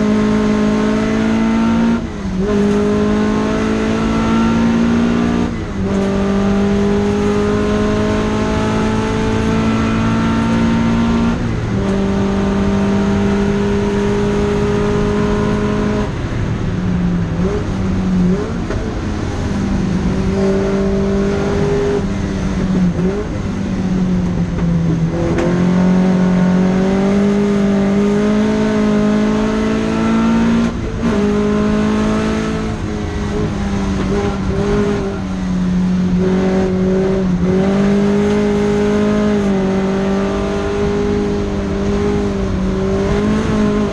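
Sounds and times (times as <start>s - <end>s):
car engine running hard: 0.0s - 43.9s.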